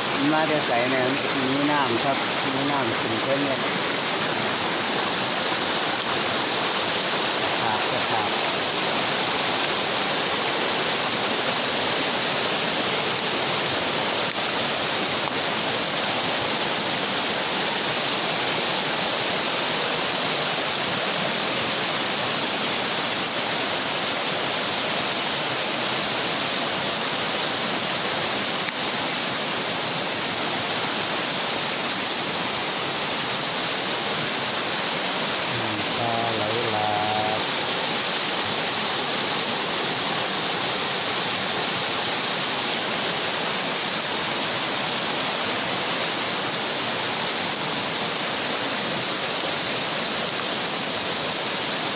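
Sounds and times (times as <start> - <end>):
floodwater rushing: 0.0 - 23.6, 30.4 - 48.6.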